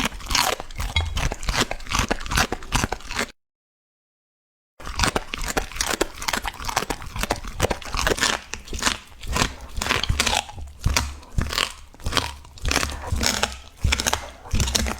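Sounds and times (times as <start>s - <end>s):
dog chewing bone: 0.0s - 3.3s, 4.8s - 14.9s.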